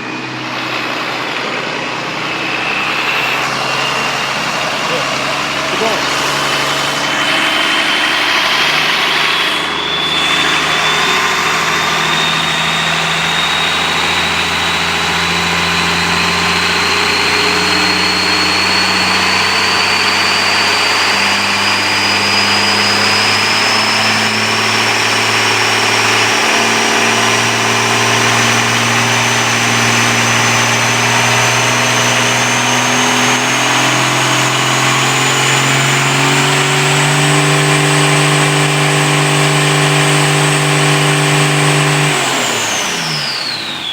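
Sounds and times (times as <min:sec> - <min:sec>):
high thin whine: 0:00.0 - 0:39.0
diesel engine running: 0:00.0 - 0:43.9.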